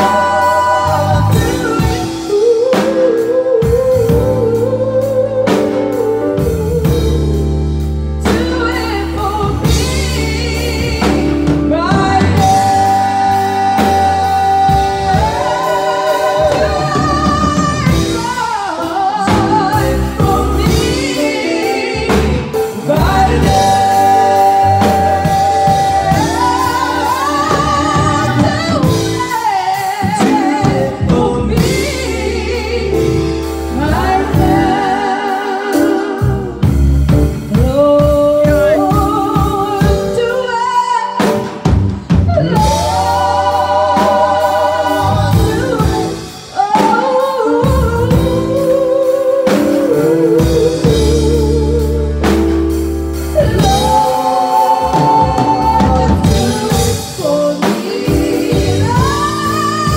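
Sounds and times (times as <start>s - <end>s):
live band playing: 0.0s - 59.9s
women singing gospel: 0.0s - 59.9s.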